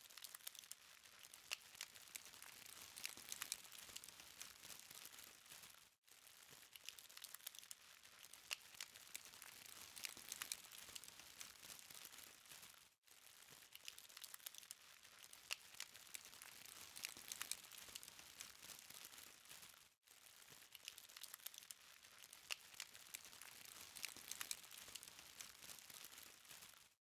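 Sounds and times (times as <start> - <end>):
charcoal fire crackling: 0.0 - 27.0.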